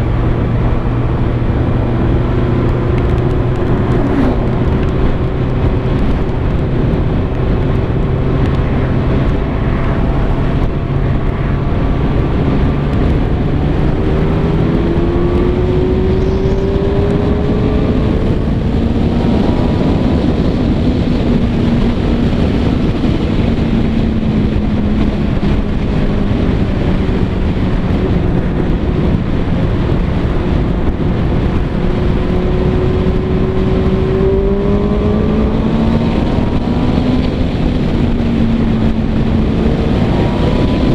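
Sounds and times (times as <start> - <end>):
motorcycle engine at speed: 0.0 - 40.9
wind and road noise: 0.0 - 40.9.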